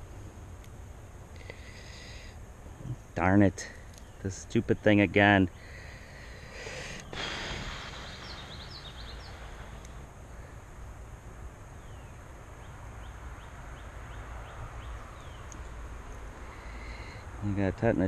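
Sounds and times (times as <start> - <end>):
steady low rumble: 0.0 - 18.0
small birds chirping: 1.3 - 10.6, 11.6 - 18.0.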